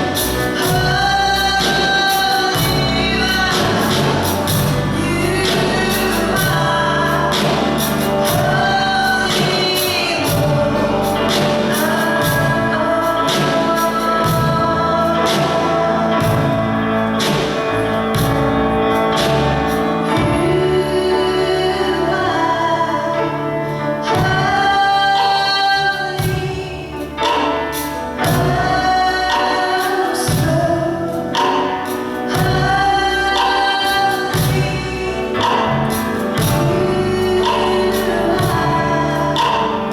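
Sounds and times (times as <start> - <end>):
choir singing gospel: 0.0 - 39.9
instrumental accompaniment with beat: 0.0 - 39.9.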